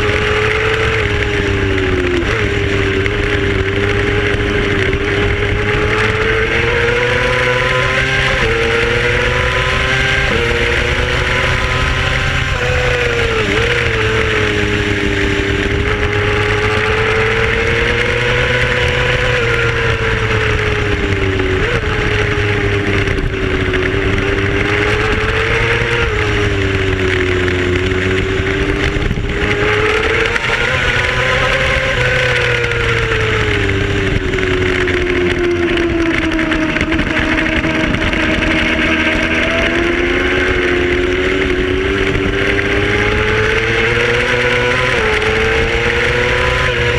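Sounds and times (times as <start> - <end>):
racing motorcycle engine: 0.0 - 46.9.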